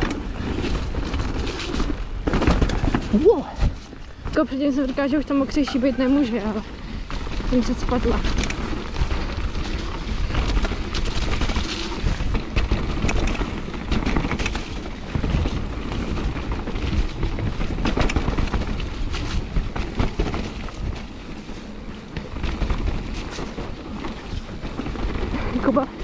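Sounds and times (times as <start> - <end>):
bike knocking and rattling: 0.0 - 26.0
tyres rumbling on trail: 0.0 - 26.0.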